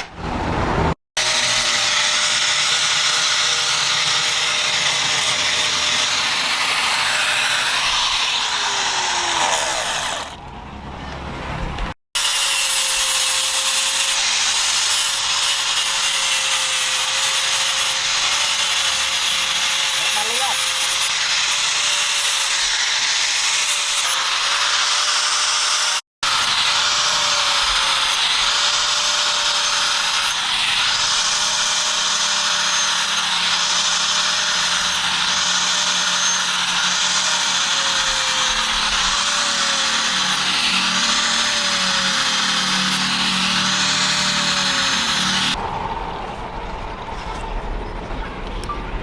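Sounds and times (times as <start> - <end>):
electric grinder grinding steel: 1.2 - 10.4, 12.2 - 45.6.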